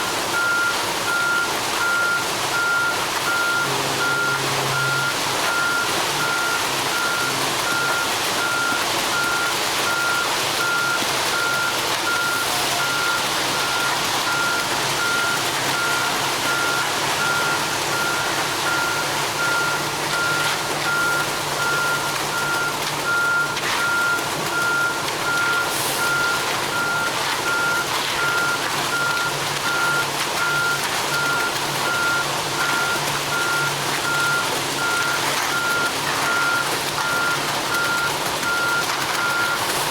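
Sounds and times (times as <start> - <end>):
diesel engine humming: 0.3 - 39.9
truck backup alarm beeping: 0.3 - 39.9.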